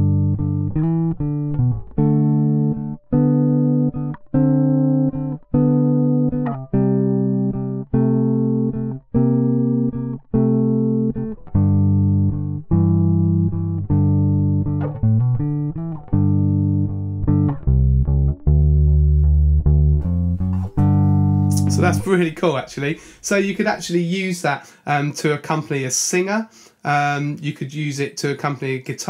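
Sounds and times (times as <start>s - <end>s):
electric bass blues riff: 0.0s - 24.0s.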